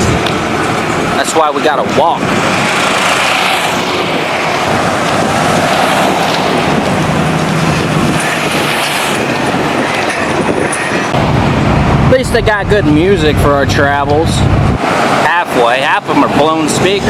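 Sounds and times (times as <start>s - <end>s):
street traffic: 0.0s - 17.0s
vehicle engines running: 0.0s - 17.0s
wind noise on microphone: 0.0s - 17.0s.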